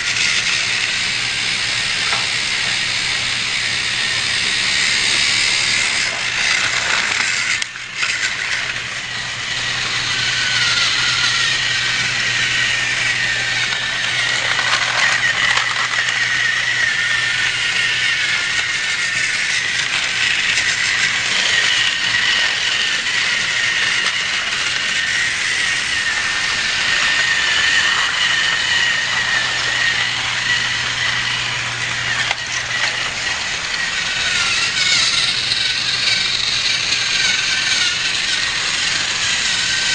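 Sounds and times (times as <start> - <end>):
toy train gears rattling: 0.0 - 39.9
toy train motor whine: 0.0 - 39.9.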